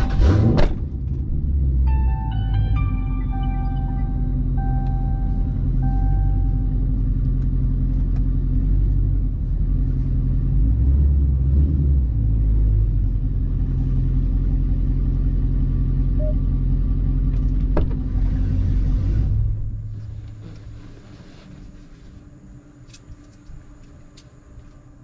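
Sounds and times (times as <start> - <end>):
car engine idling: 0.8 - 10.7, 12.1 - 23.9.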